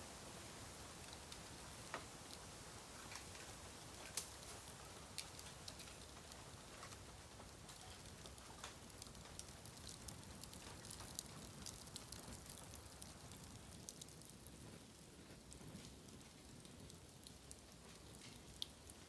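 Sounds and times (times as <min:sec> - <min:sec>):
bamboo fire crackling: 0:00.0 - 0:19.0
low steady fire hiss: 0:00.0 - 0:19.0.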